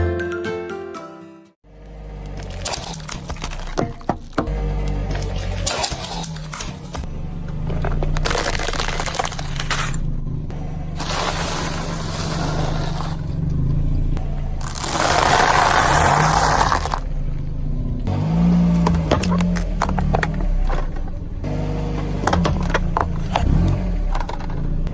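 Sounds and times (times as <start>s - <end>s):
car engine revving: 1.6s - 24.9s
car engine running: 1.6s - 24.9s
tyres crushing objects: 1.7s - 24.9s.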